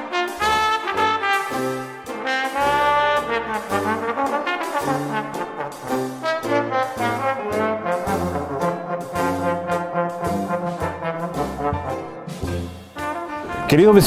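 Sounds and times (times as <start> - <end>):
brass instrument melody: 0.0 - 14.0.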